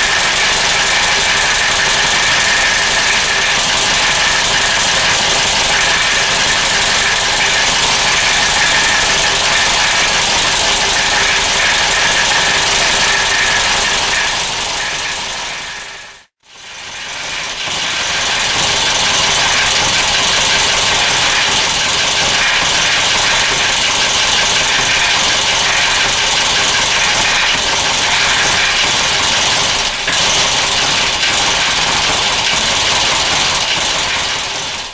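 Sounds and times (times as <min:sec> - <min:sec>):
car engine idling rough: 0:00.0 - 0:34.9.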